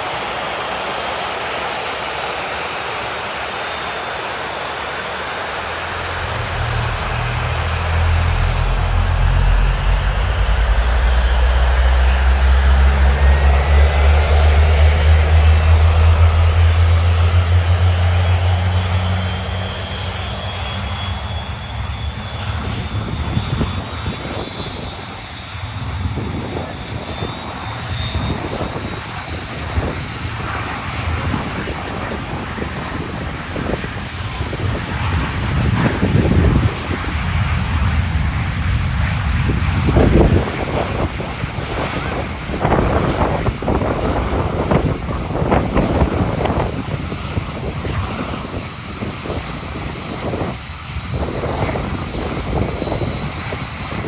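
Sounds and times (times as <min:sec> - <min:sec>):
high turbine whine: 0:04.7 - 0:54.0
jet engines idling rumble: 0:05.2 - 0:54.0.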